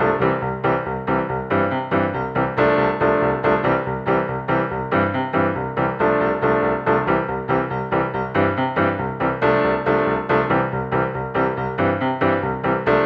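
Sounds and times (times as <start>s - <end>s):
keyboard tune: 0.0s - 13.0s.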